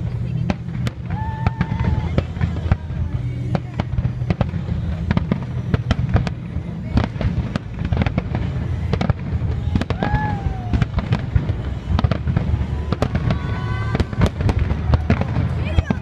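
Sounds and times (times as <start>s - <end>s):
fireworks booming: 0.0s - 16.0s
fireworks cracking and crackling: 0.0s - 16.0s.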